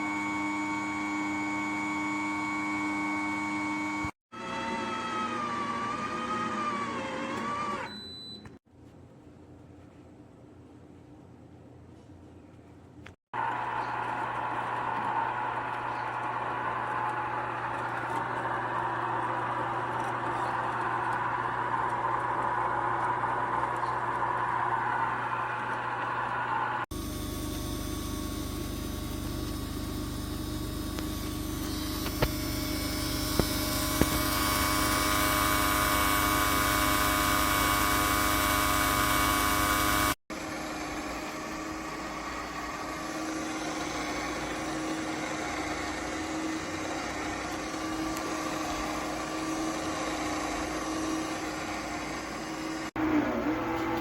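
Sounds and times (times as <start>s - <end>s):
ice cream maker motor hum: 0.0s - 8.1s, 13.4s - 54.0s.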